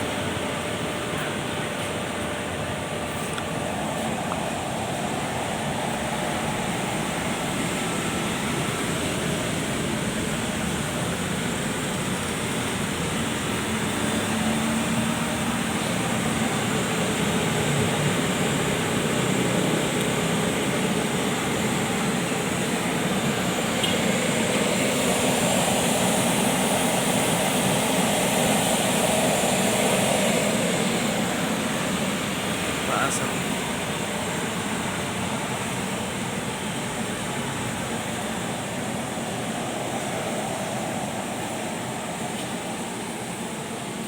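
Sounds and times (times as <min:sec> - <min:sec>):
incinerator running: 0:00.0 - 0:44.0.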